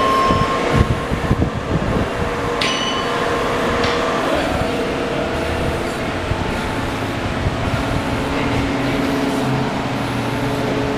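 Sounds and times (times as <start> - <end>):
mechanical humming drone: 0.0 - 10.9.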